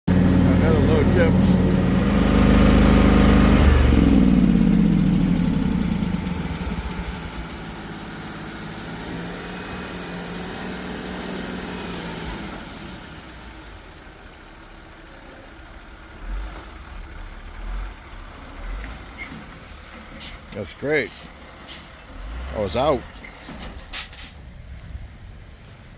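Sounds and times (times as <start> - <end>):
vehicle engine running: 0.0 - 25.9.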